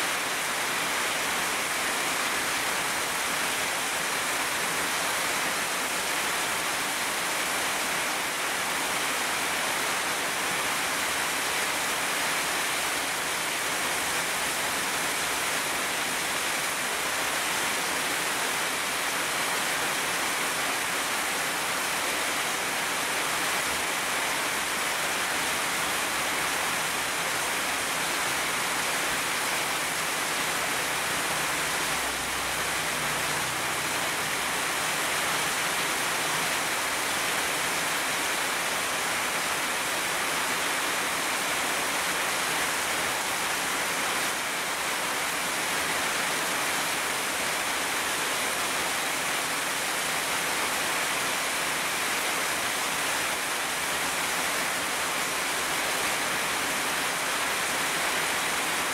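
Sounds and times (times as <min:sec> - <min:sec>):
heavy rain on leaves: 0:00.0 - 0:58.9.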